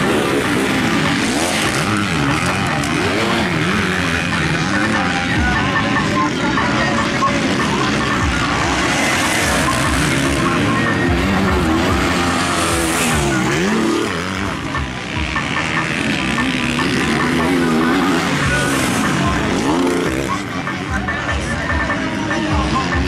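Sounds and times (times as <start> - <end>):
motocross engines revving: 0.0 - 23.0.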